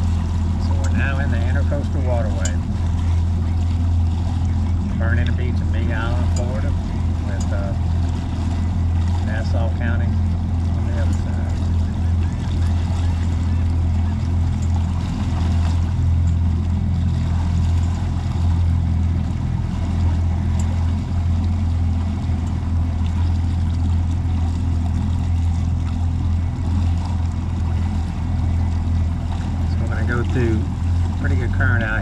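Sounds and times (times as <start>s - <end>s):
outboard engine drone: 0.0s - 32.0s
water rushing past hull: 0.0s - 32.0s.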